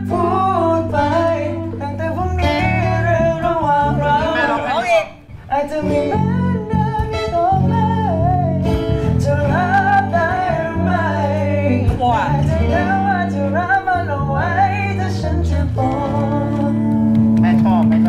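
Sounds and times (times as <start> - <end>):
pop ballad with vibrato voice: 0.0 - 17.4
acoustic guitar: 0.0 - 18.0.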